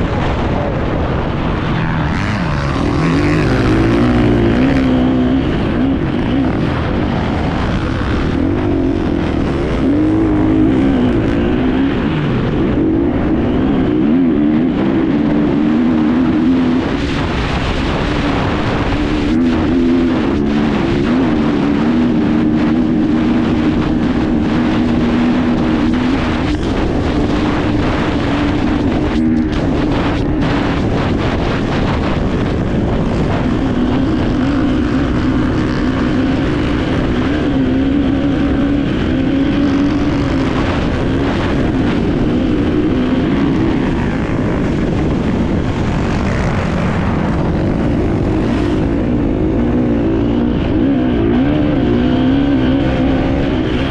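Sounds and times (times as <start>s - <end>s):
dirt bike engine revving: 0.0s - 53.9s
wind and terrain noise: 0.0s - 53.9s.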